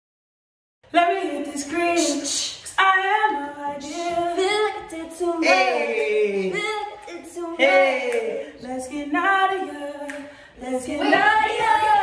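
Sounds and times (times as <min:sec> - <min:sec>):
woman singing unaccompanied: 0:00.9 - 0:12.0.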